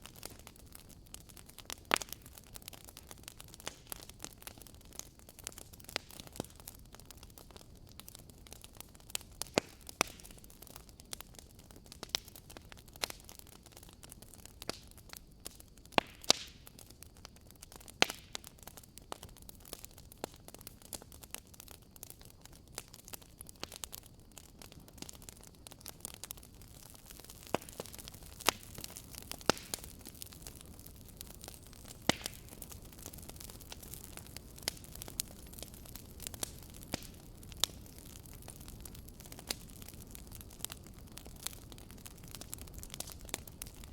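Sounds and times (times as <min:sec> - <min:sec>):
faint steady hiss: 0:00.0 - 0:43.9
wood fire crackling: 0:00.0 - 0:43.9.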